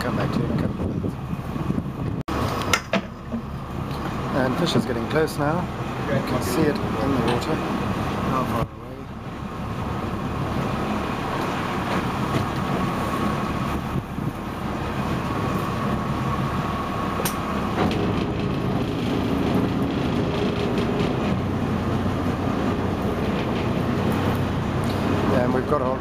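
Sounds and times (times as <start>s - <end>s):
boat engine throbbing: 0.0s - 26.0s.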